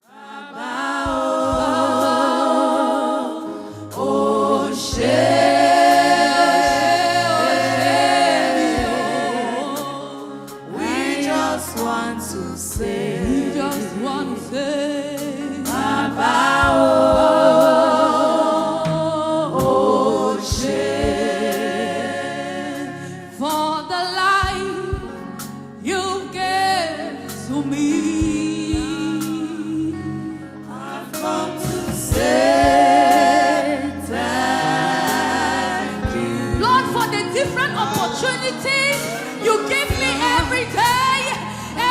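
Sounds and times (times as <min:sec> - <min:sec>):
gospel choir singing: 0:00.0 - 0:41.9.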